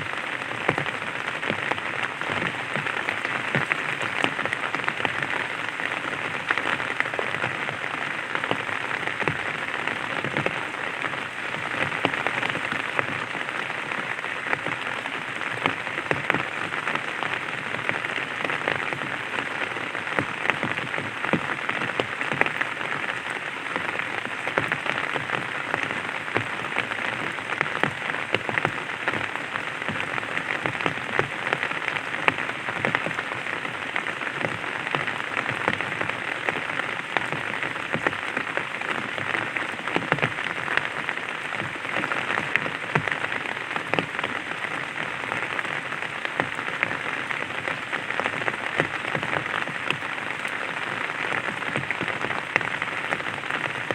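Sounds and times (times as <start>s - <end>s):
rain pattering on umbrella: 0.0s - 53.9s.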